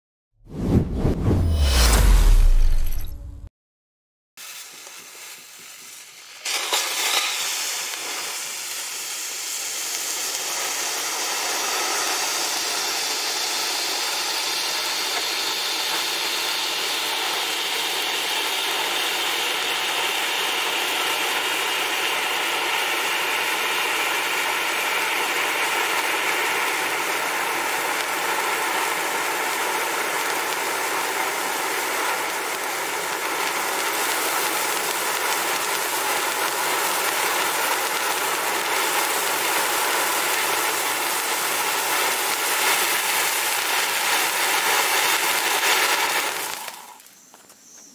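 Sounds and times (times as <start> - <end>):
firework fountain hissing: 4.4 - 47.6.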